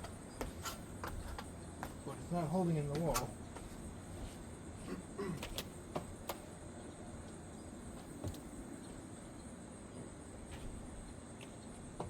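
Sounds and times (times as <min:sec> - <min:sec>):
high insect-like hum: 0:00.0 - 0:12.0.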